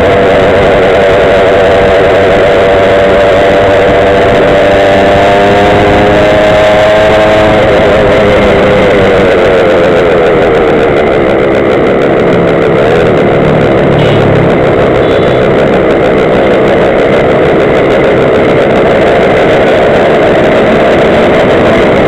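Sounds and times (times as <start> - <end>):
small two-stroke engine running: 0.0 - 22.0
steady rushing noise: 0.0 - 22.0.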